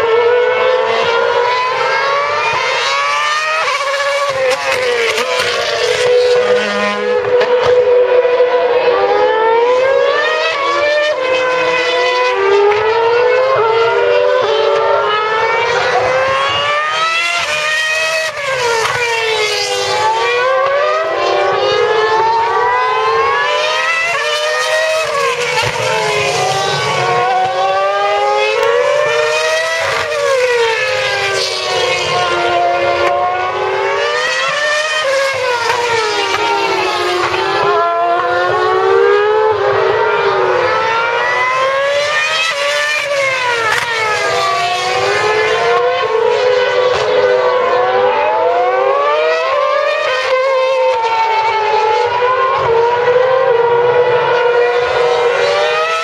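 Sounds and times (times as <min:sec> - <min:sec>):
racing car engines at high revs: 0:00.0 - 0:56.0.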